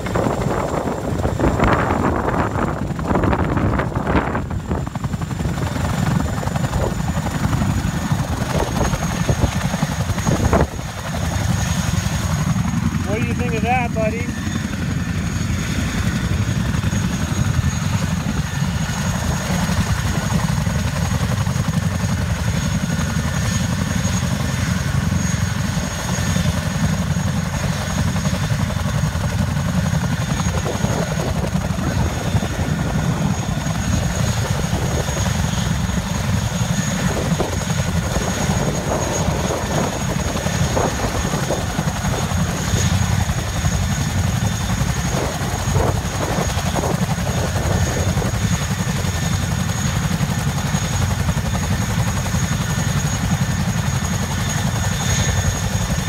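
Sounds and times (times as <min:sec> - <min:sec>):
deep helicopter rotor rumble: 0:00.0 - 0:56.0
turbine engine high whine: 0:00.0 - 0:56.0.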